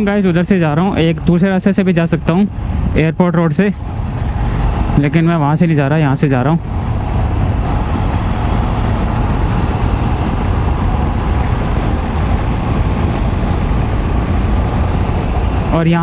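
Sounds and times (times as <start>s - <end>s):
motorcycle engine: 0.0s - 16.0s
road noise: 0.0s - 16.0s
wind buffeting microphone: 0.0s - 16.0s.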